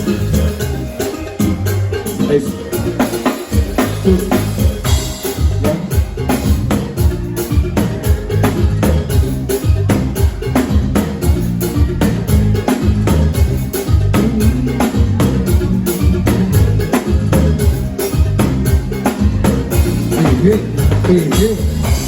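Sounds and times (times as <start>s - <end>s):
drum kit beat: 0.0s - 22.0s
live band playing: 0.0s - 22.0s
low bass notes: 0.0s - 22.0s.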